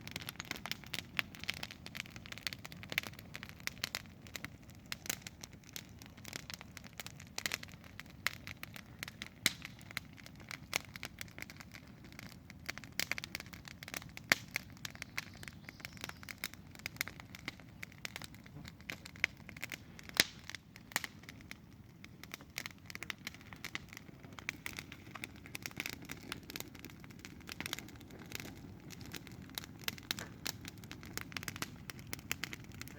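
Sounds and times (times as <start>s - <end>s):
burning wood crackling: 0.0s - 32.9s
low rush of flames: 0.0s - 32.9s.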